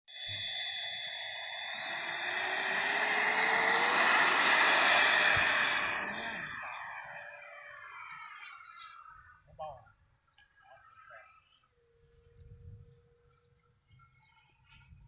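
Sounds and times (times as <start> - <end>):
model jet engine whine: 0.1 - 15.0.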